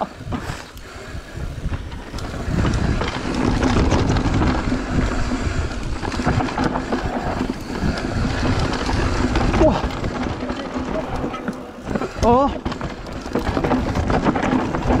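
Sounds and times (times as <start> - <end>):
tyres rumbling on dirt: 0.0 - 15.0
wind buffeting microphone: 0.0 - 15.0
bike clicks and knocks: 0.2 - 15.0.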